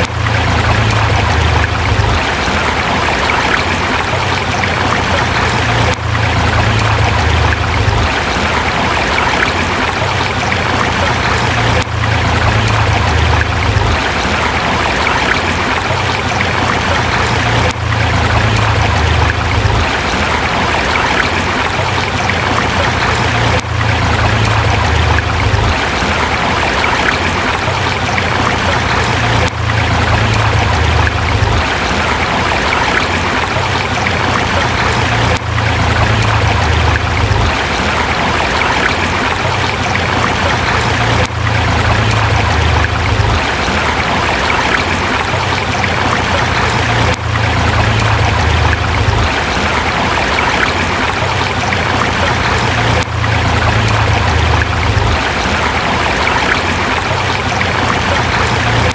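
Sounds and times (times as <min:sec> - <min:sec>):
river water splashing over rocks: 0:00.0 - 0:58.9.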